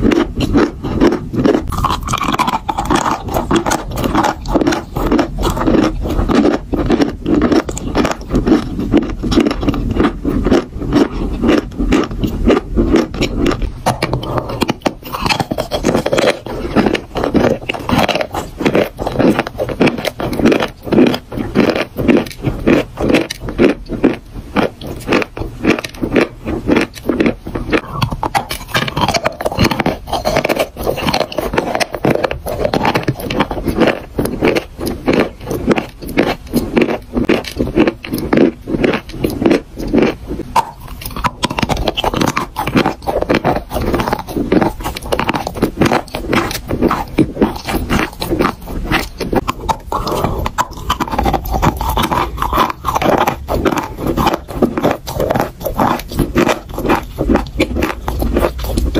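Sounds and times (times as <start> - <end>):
chalk being chewed: 0.0 - 58.9.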